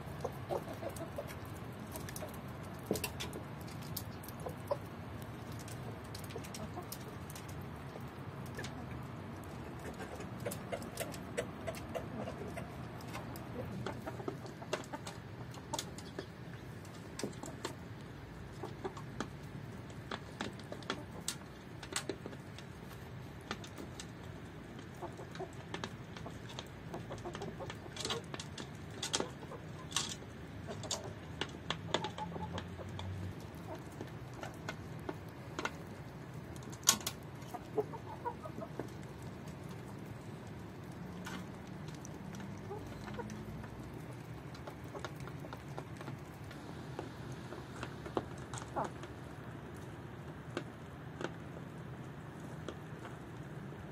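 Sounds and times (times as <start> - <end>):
beaks pecking on metal pan: 0.0 - 49.2
chickens clucking: 0.0 - 51.5.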